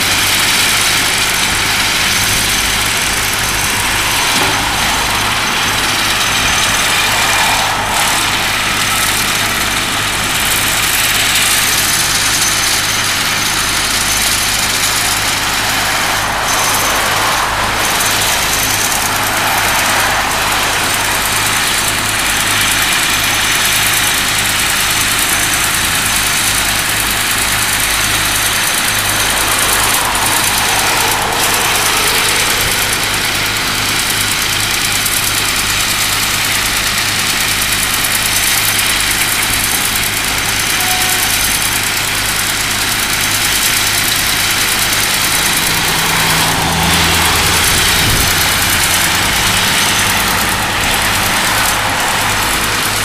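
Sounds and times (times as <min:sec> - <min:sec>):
excavator diesel engine: 0:00.0 - 0:53.0
road traffic passing: 0:00.0 - 0:53.0
tracked skid steer working: 0:00.0 - 0:53.0.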